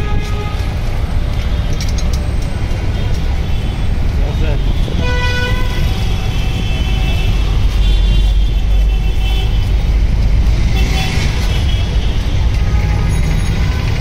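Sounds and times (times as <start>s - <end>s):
road traffic engine rumble: 0.0s - 14.0s.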